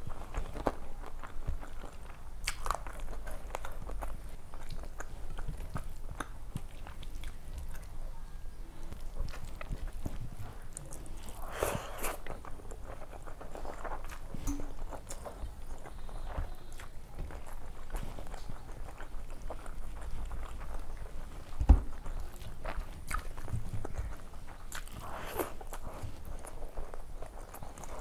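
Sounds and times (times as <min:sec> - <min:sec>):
chewing and wet mouth sounds: 0:00.0 - 0:28.0.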